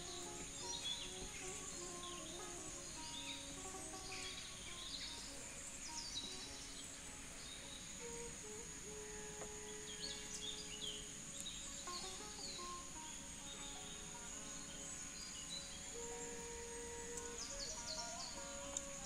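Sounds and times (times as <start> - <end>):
birds chirping: 0.0 - 19.0
insects droning: 0.0 - 19.0
soft instrumental music: 0.0 - 19.0.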